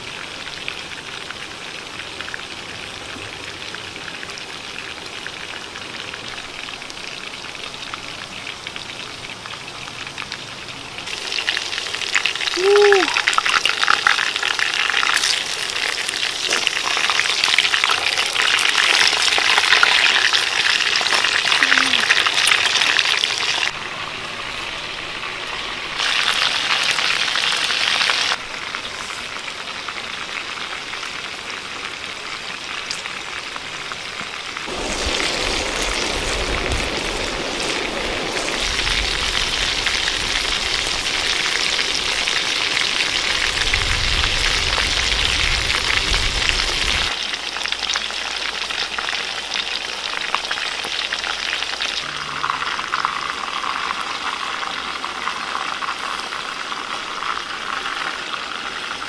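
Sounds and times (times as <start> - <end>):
chicken frying in hot oil: 0.0 - 59.0.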